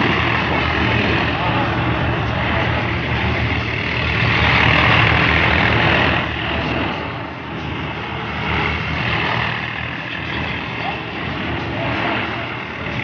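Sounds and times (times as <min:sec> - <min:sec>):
tractor diesel engines running: 0:00.0 - 0:13.0.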